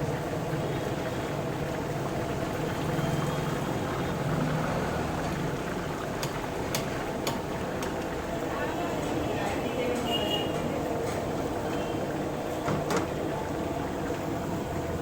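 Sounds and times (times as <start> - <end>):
oil bubbling and sizzling: 0.0 - 15.0.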